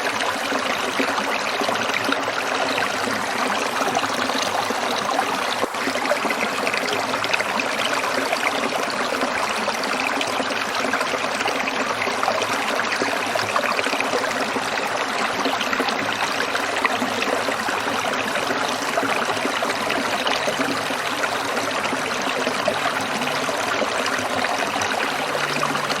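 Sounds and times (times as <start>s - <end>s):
stream trickling over rocks: 0.0s - 26.0s.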